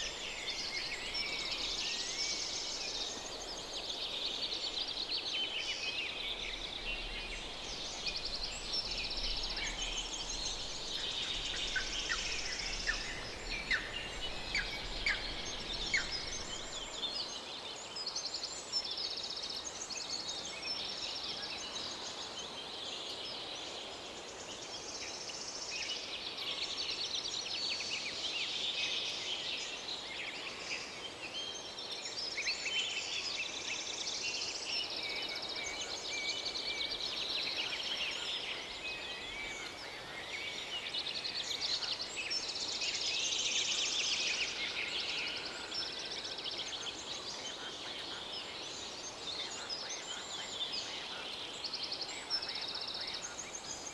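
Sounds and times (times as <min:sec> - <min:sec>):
faint steady hiss: 0:00.0 - 0:53.9.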